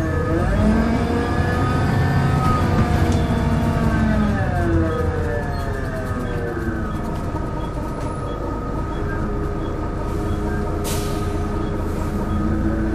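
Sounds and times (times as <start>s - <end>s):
bus engine droning: 0.0s - 12.9s.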